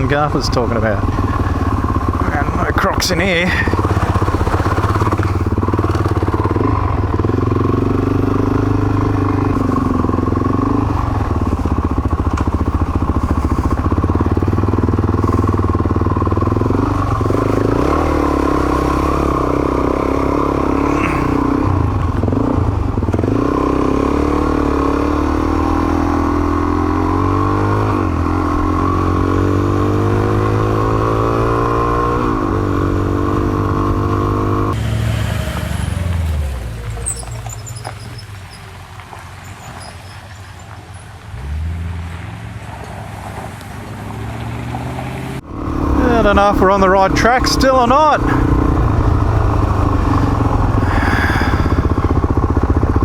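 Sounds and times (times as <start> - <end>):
motorcycle engine shifting gears: 0.0 - 53.0.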